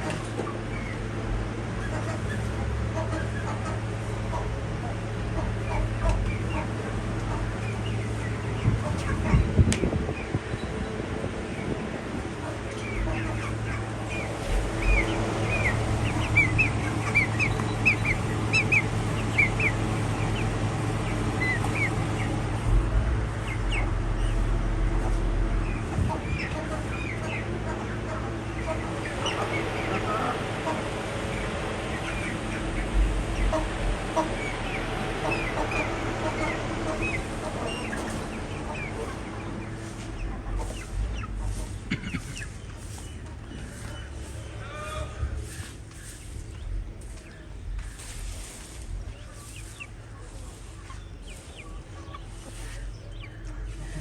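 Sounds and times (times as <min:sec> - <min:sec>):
chicks peeping: 0:00.0 - 0:54.0
steady low hum: 0:00.0 - 0:54.0.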